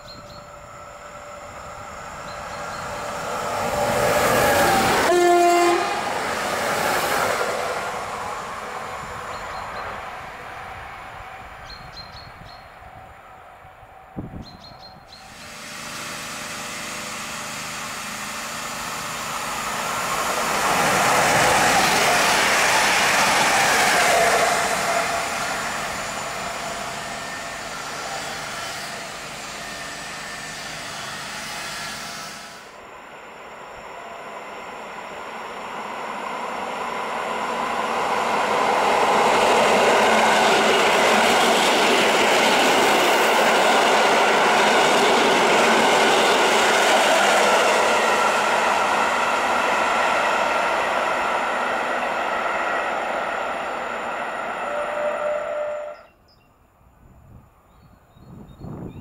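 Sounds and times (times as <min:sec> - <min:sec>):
electric train passing: 0:00.0 - 0:58.9.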